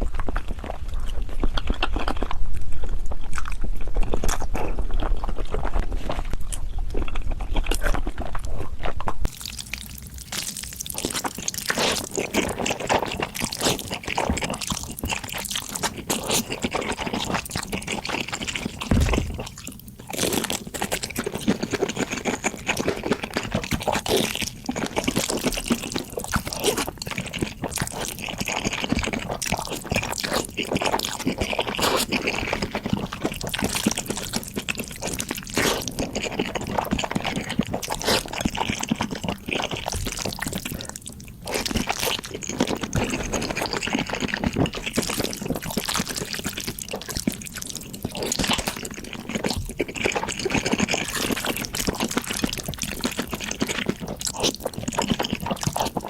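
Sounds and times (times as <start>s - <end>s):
crunching: 0.0s - 56.0s
wet chewing and slurping: 0.0s - 56.0s.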